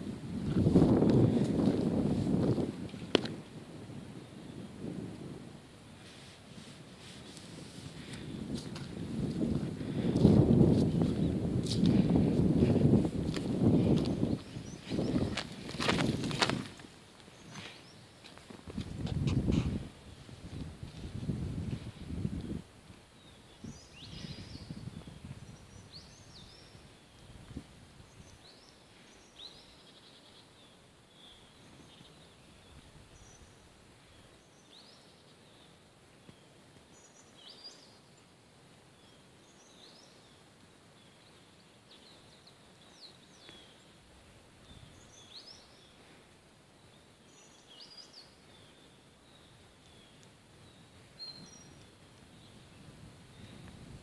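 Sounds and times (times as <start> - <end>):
quiet outdoor ambience: 0.0 - 54.0.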